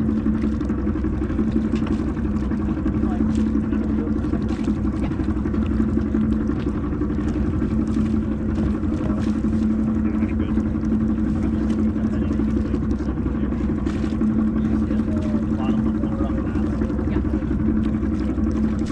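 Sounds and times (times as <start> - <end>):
boat engine humming: 0.0 - 18.9.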